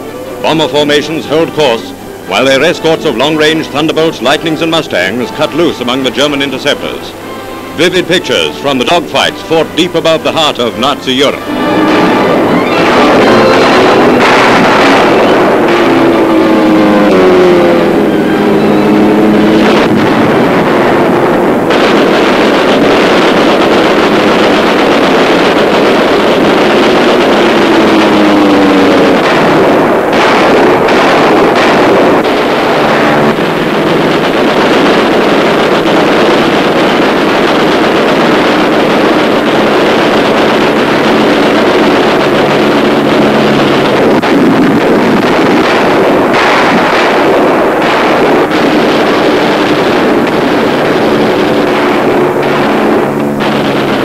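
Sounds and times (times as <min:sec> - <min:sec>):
aircraft piston engines at high power: 0:00.0 - 0:54.0
sharp crackles: 0:00.0 - 0:54.0
steady rushing noise: 0:00.0 - 0:54.0.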